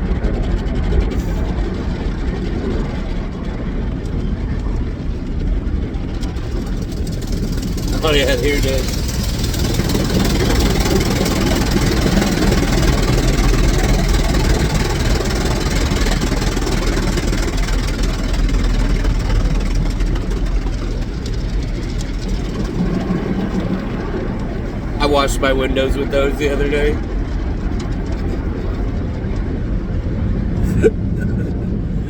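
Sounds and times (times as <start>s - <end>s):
car wash equipment rushing: 0.0s - 32.0s.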